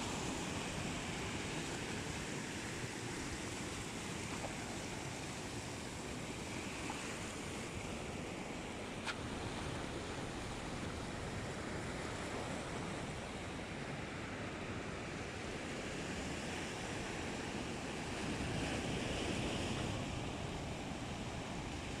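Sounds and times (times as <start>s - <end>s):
surf washing on pebbly shore: 0.0s - 22.0s.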